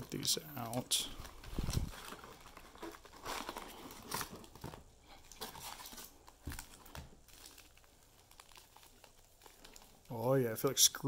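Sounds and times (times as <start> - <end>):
crinkling card packs: 0.0 - 11.0.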